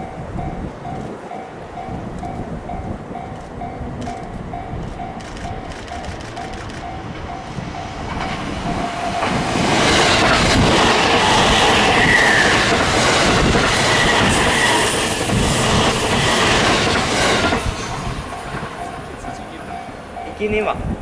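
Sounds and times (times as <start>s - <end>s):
train wheels rushing on rails: 0.0s - 21.0s.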